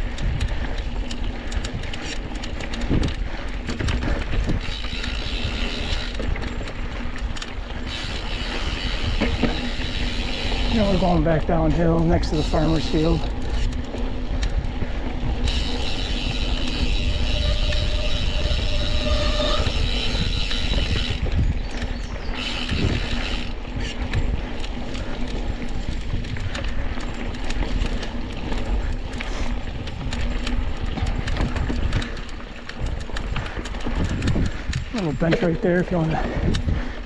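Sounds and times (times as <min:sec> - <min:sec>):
bike rattling over bumps: 0:00.0 - 0:37.0
freewheeling hub buzz: 0:00.0 - 0:37.0
tyre and wind rumble: 0:00.0 - 0:37.0.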